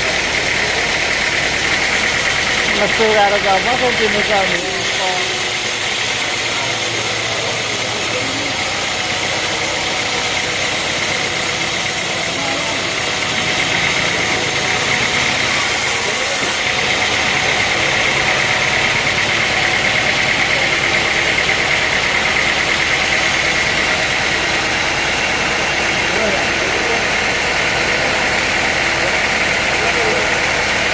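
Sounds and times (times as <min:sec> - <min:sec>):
high mechanical hum: 0:00.0 - 0:30.9
sawmill machinery running: 0:00.0 - 0:30.9.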